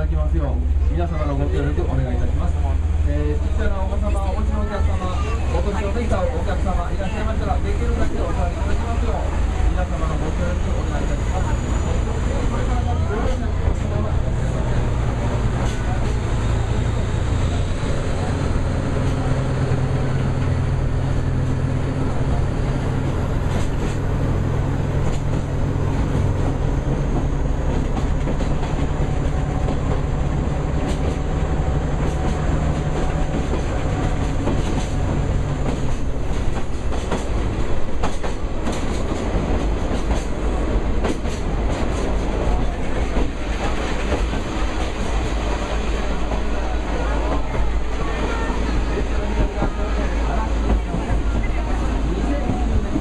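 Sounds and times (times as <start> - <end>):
train wheels rumbling on rails: 0.0 - 53.0
track clicks and clacks: 7.4 - 53.0.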